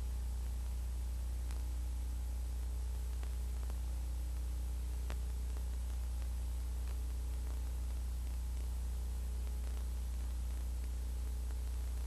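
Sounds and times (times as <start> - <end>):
faint hiss: 0.0 - 12.0
low electrical hum: 0.0 - 12.0.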